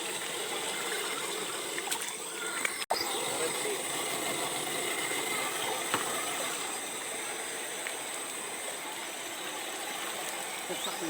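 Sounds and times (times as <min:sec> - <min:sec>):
flowing water hiss: 0:00.0 - 0:11.0
thin high whine: 0:00.0 - 0:11.0.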